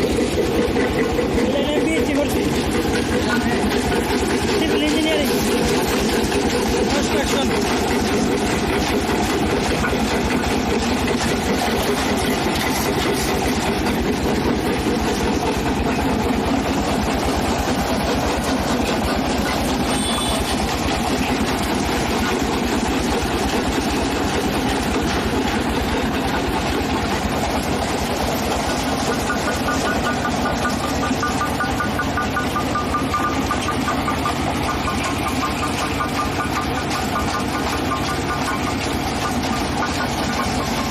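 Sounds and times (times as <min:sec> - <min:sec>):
heavy machine engine knocking: 0:00.0 - 0:40.9.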